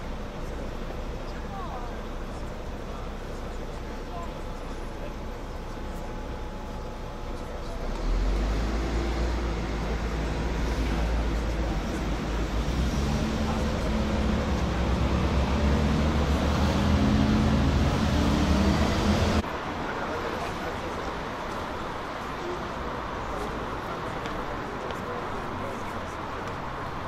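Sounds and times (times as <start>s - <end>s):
steady street noise: 0.0s - 27.0s
vehicle engine rumbling close by: 0.0s - 27.0s.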